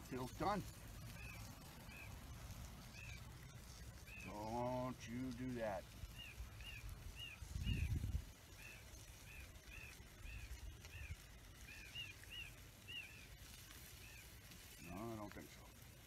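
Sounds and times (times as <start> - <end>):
small bird chirping: 0.1 - 15.8.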